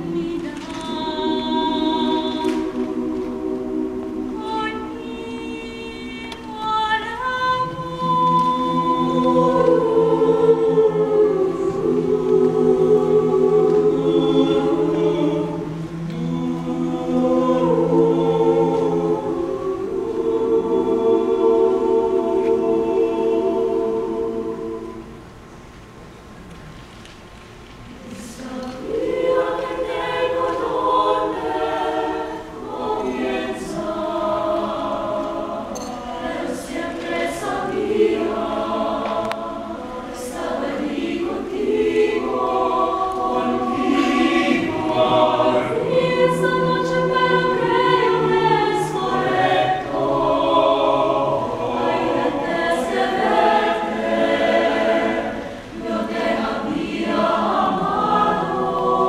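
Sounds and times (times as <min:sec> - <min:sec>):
mixed choir singing: 0:00.0 - 0:25.4, 0:27.9 - 0:59.0.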